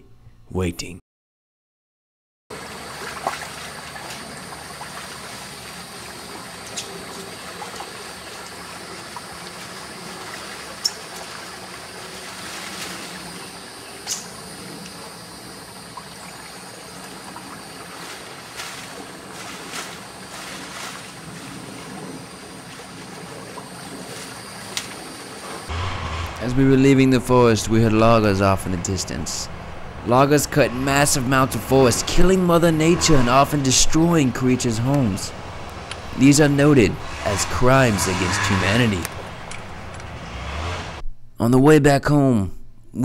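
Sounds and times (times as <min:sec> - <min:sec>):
stream water running: 0:02.5 - 0:25.8, 0:26.6 - 0:40.8.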